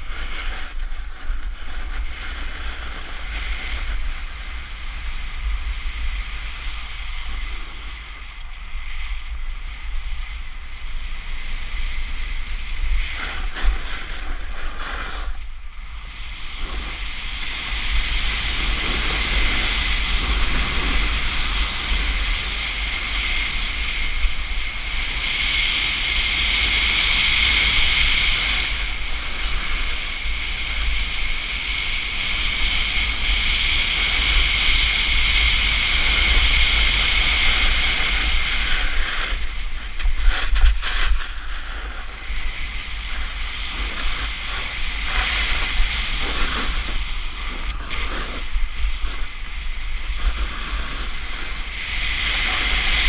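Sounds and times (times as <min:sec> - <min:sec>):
snowboard carving on snow: 0:00.0 - 0:53.0
wind rumble on microphone: 0:00.0 - 0:53.0.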